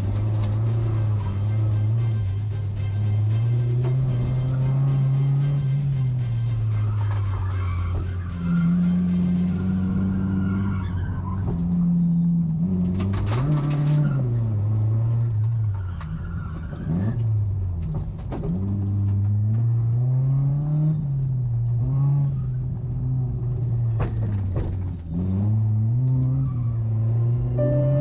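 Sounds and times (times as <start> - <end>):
car engine revving: 0.0 - 28.0
tire squeal: 0.0 - 28.0.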